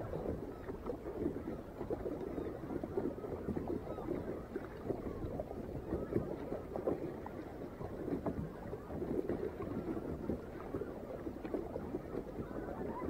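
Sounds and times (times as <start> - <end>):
kayak paddle splashing: 0.0 - 13.0.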